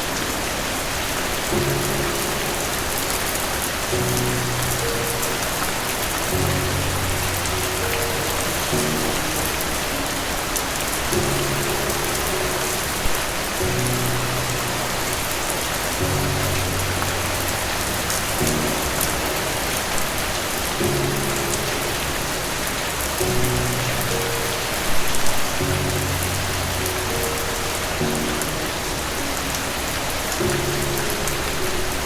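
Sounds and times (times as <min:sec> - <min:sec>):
dense rain hiss: 0:00.0 - 0:32.0
raindrops ticking: 0:00.0 - 0:32.0
soft low music notes: 0:00.0 - 0:32.0.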